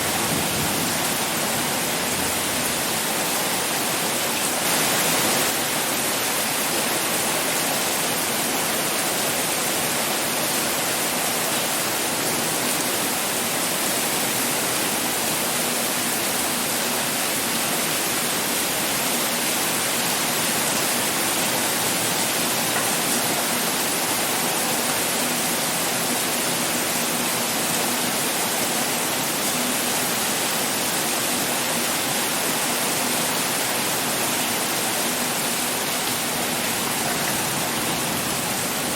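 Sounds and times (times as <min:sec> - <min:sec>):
heavy pouring rain: 0:00.0 - 0:38.9.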